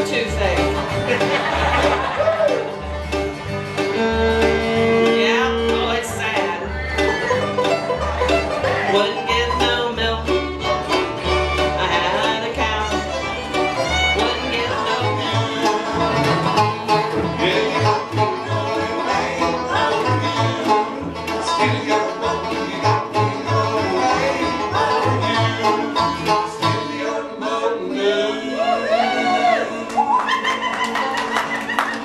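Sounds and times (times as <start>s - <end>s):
fiddle: 0.0s - 26.9s
banjo: 0.0s - 28.4s
upright bass: 0.0s - 30.2s
bluegrass band playing: 0.0s - 32.0s.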